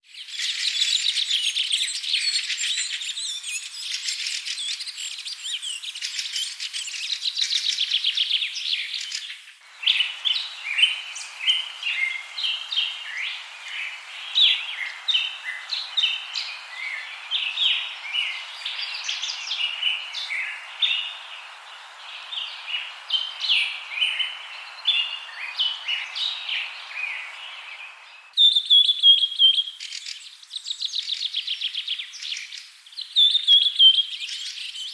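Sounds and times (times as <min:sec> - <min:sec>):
birds chirping and calling: 0:00.4 - 0:28.3.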